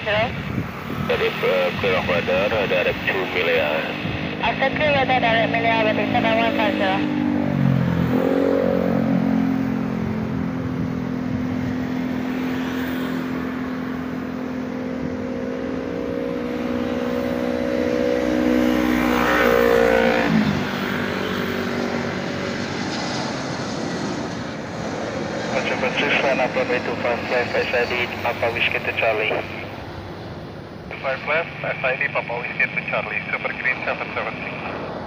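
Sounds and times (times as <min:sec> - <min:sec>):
vehicle engine passing by: 0:00.2 - 0:35.0.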